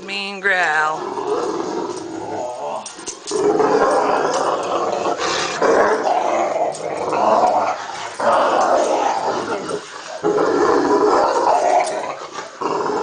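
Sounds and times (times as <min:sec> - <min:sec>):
dog growling in play: 0:00.9 - 0:13.0.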